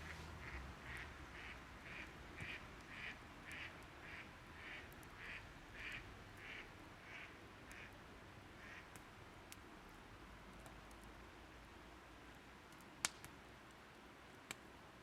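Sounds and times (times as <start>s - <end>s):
campfire crackles: 0.0s - 15.0s.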